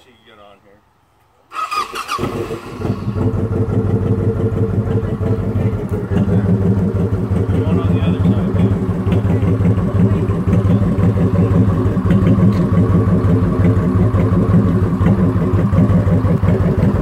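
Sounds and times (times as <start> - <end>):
motorcycle engine idling: 1.7 - 17.0.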